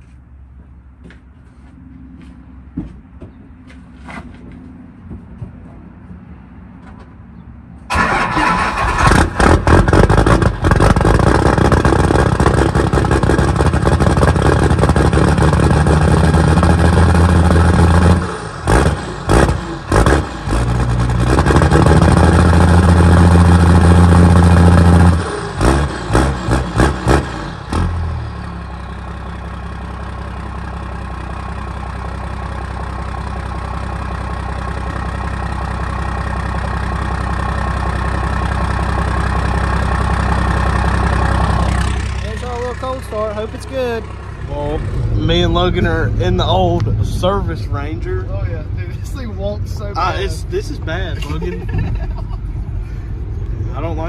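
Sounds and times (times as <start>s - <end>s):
pickup engine starting and revving: 7.9s - 29.4s, 31.2s - 53.1s.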